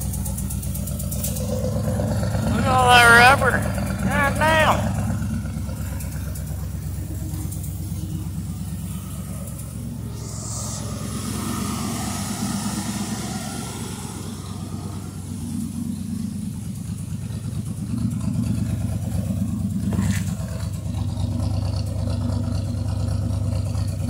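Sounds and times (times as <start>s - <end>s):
pickup engine idling: 0.0s - 24.0s.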